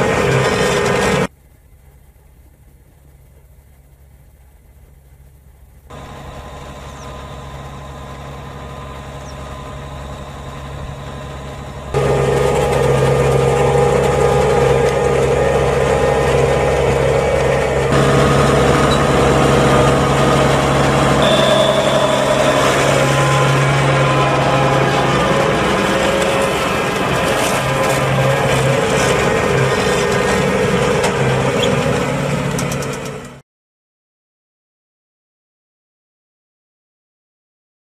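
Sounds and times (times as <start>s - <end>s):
tractor diesel engine under load: 0.0s - 33.4s.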